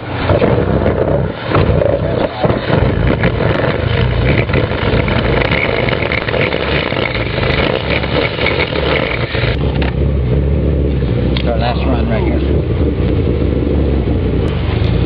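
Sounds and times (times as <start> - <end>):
motor running loudly: 0.0 - 15.0.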